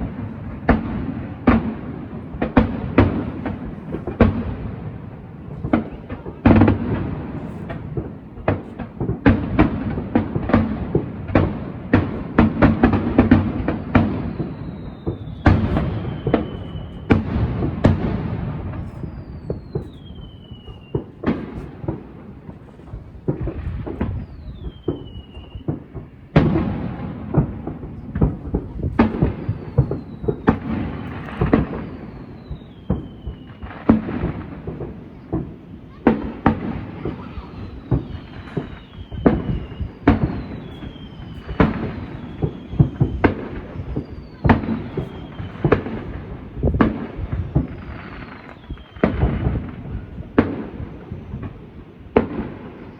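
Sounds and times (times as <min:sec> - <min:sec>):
fireworks bangs and booms: 0:00.0 - 0:52.9
falling firework whistle: 0:02.6 - 0:52.9.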